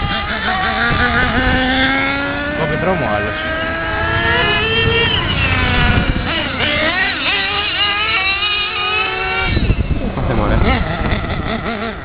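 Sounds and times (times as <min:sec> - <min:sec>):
model car motors whining: 0:00.0 - 0:12.0.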